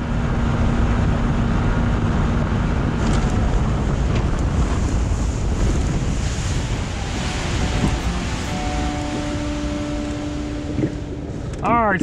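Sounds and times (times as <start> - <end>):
water rushing against a hull: 0.0 - 12.0
wind buffeting the microphone: 0.0 - 12.0.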